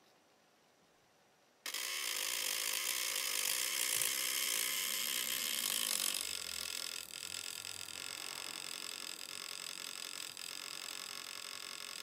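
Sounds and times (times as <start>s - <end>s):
electric fan whirring: 1.6s - 12.0s.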